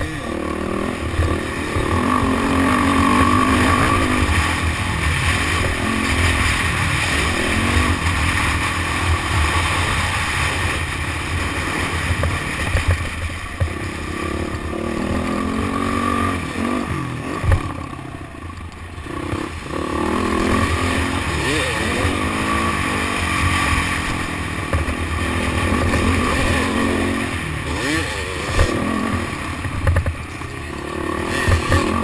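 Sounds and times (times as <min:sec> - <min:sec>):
motorbike engine revving: 0:00.0 - 0:32.0.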